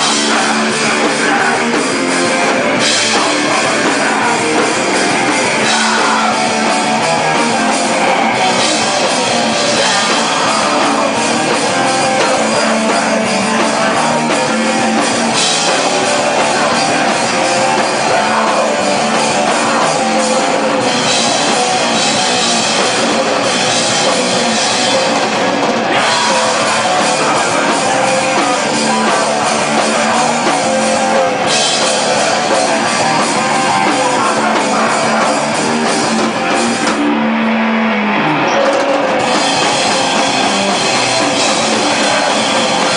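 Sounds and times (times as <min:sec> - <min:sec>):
distorted electric guitar: 0:00.0 - 0:42.9
pounding drum kit: 0:00.0 - 0:42.9.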